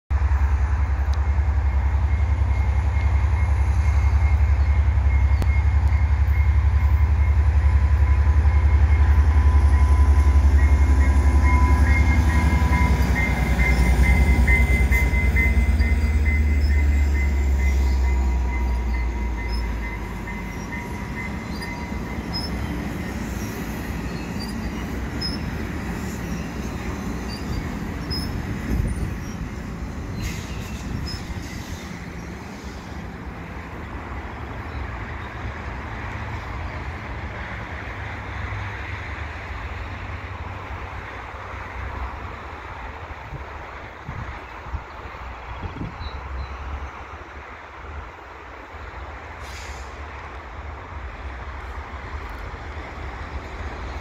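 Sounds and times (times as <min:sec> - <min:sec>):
diesel locomotive engine rumble: 0:00.1 - 0:54.0
train wheels on rails: 0:00.1 - 0:54.0.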